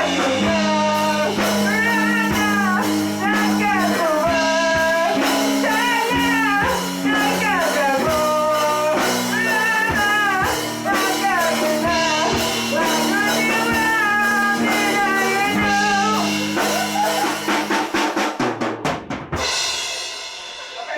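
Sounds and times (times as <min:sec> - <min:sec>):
wavering lead melody: 0:00.0 - 0:17.8
bass: 0:00.0 - 0:18.2
drum kit: 0:00.0 - 0:20.9.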